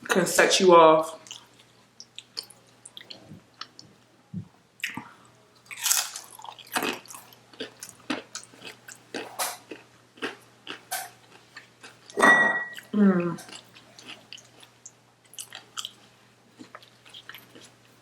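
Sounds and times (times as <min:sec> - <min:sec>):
person chewing food: 0:01.2 - 0:03.9, 0:04.8 - 0:18.0.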